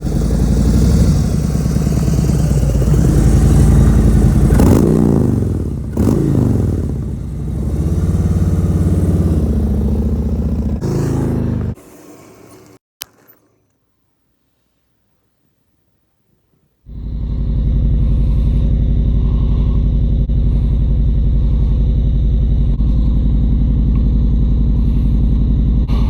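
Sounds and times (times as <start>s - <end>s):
motorcycle engine running: 0.0s - 11.8s, 16.9s - 26.0s.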